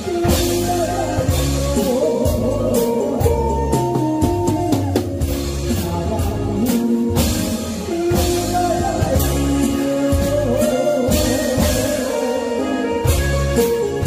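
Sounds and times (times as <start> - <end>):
backing music: 0.0 - 14.0
drum kit playing: 0.0 - 14.0
man singing into a microphone: 0.0 - 14.0.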